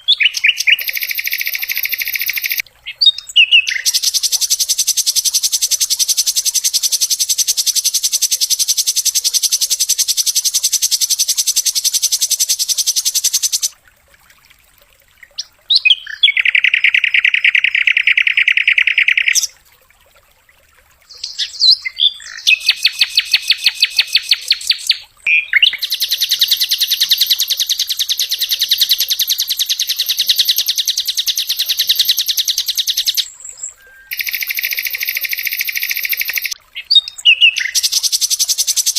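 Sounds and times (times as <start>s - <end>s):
bird singing high trills: 0.0s - 13.7s, 21.1s - 38.9s.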